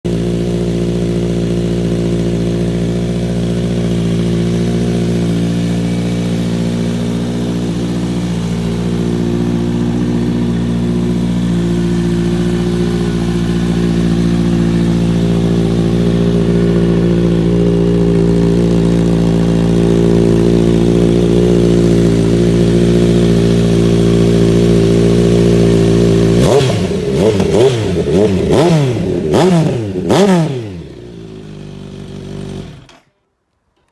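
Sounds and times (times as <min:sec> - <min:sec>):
motorcycle engine idling and revving: 0:00.0 - 0:33.1.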